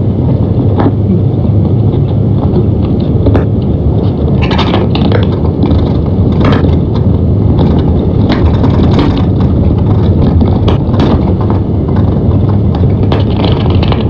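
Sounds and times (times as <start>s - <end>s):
vehicle road rumble: 0.0s - 14.0s
clicks and rattles: 1.7s - 14.0s.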